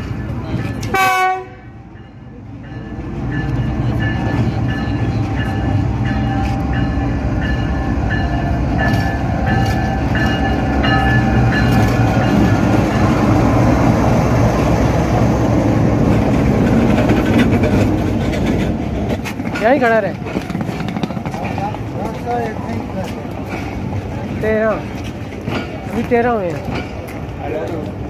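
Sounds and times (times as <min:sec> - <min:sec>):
diesel locomotive engine drone: 0:00.0 - 0:28.0.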